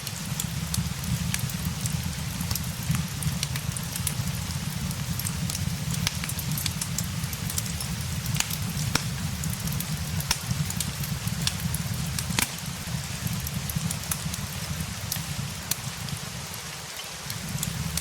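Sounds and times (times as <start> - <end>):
fireplace crackling: 0.0 - 18.0
steady rain: 0.0 - 18.0.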